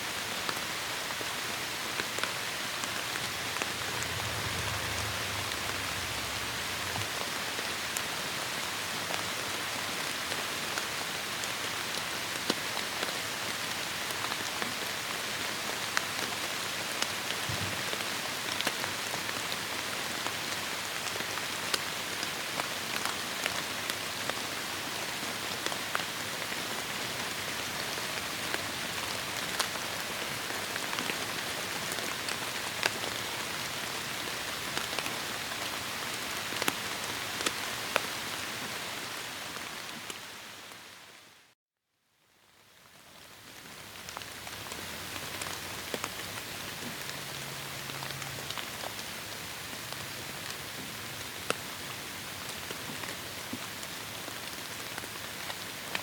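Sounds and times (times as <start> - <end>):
heavy rain on foliage: 0.0 - 41.5, 42.4 - 56.0.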